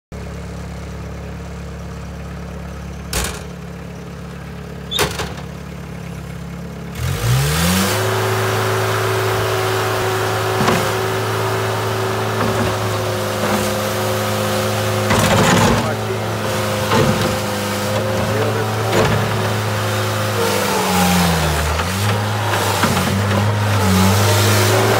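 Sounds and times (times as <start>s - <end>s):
diesel engine idling and revving: 0.1s - 24.9s
loader bucket working: 0.2s - 24.9s.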